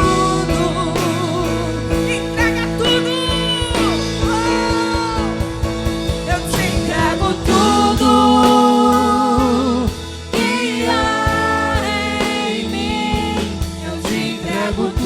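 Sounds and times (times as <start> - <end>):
band playing worship song: 0.0 - 15.0.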